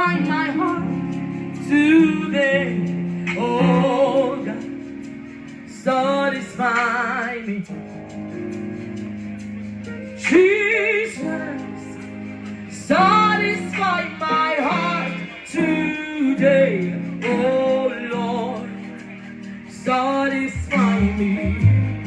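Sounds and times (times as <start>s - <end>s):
solo gospel singing: 0.0s - 8.5s, 10.0s - 22.0s
held instrumental chords: 0.0s - 22.0s.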